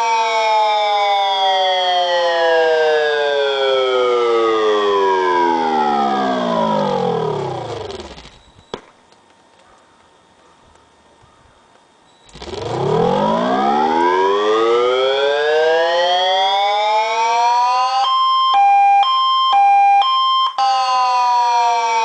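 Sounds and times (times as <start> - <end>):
siren wailing: 0.0 - 8.4, 12.3 - 22.0.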